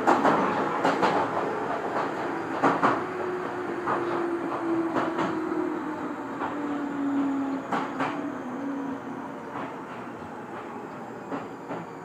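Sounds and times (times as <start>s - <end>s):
train wheels clicking over rail joints: 0.0s - 12.0s
steady whining tone: 1.2s - 12.0s.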